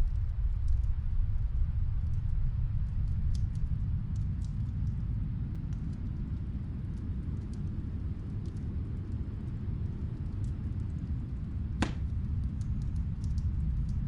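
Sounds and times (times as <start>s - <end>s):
faint fireplace crackles: 0.0s - 14.0s
snowstorm wind: 0.0s - 14.0s.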